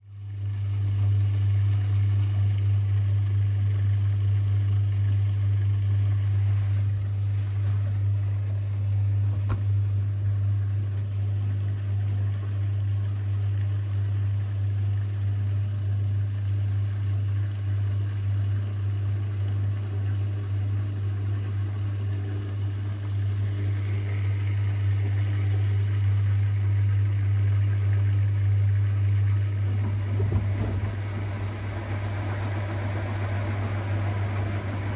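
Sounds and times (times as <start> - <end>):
washing machine spinning: 0.2 - 34.9.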